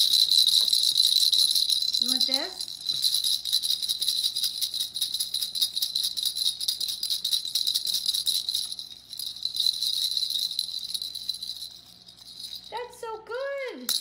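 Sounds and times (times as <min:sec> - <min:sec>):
plastic rattle toy jingling: 0:00.0 - 0:12.9.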